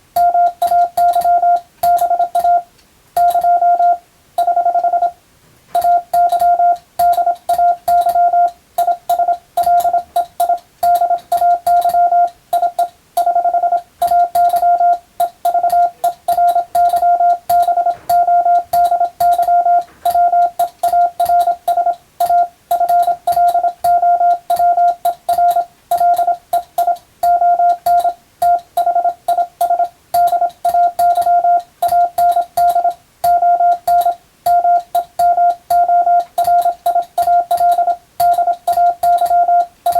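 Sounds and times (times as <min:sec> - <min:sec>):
telegraph key clicks: 0:00.2 - 0:02.6, 0:05.8 - 0:39.9
morse code beeping tone: 0:00.2 - 0:05.2, 0:05.8 - 0:39.9.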